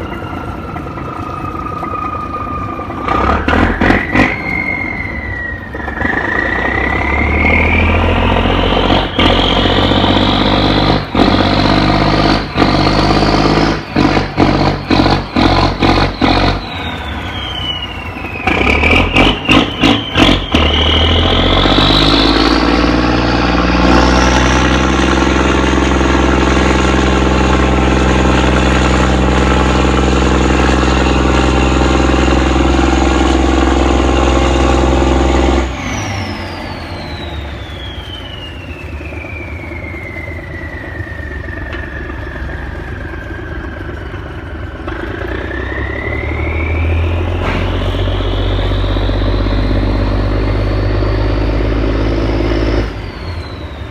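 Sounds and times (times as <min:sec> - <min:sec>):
diesel boat engine revving: 0:00.0 - 0:53.9
high engine whine: 0:00.0 - 0:53.9.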